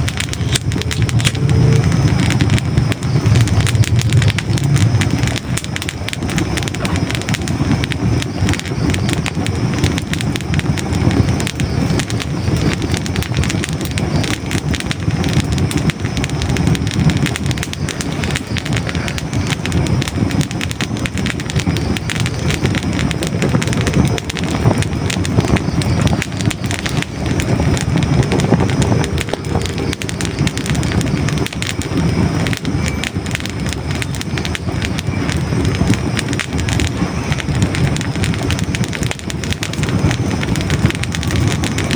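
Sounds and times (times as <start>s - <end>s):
logs crackling in fireplace: 0.0s - 41.9s
low rush of flame: 0.0s - 41.9s.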